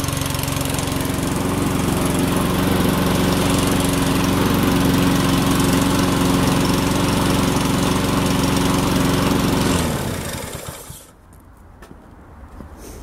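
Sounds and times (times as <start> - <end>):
lawn mower engine running: 0.0 - 11.2.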